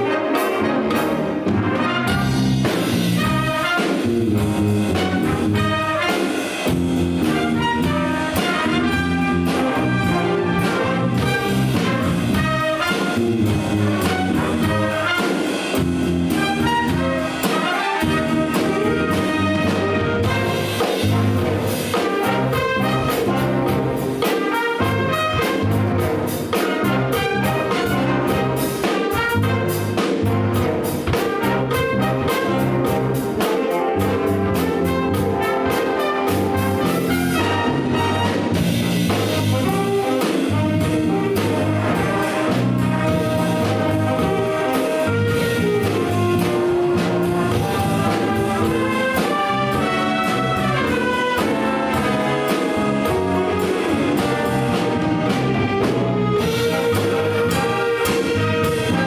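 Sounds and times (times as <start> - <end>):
big band playing jazz: 0.0 - 59.0
trumpets and trombones: 0.0 - 59.0.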